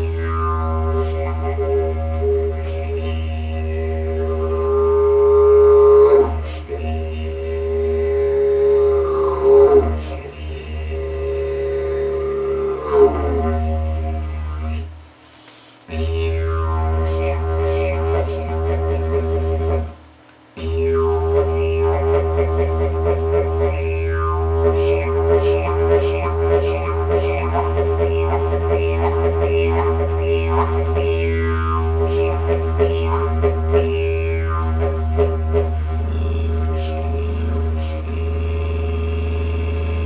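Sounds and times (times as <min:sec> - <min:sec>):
didgeridoo drone: 0:00.0 - 0:40.0.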